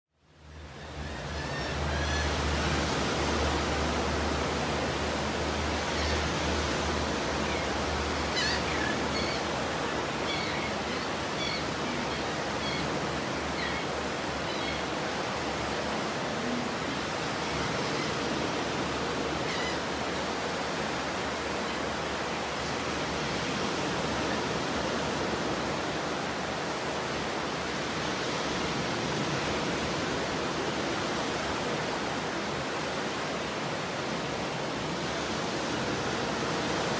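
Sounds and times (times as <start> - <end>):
waves breaking on beach: 0.4 - 36.9.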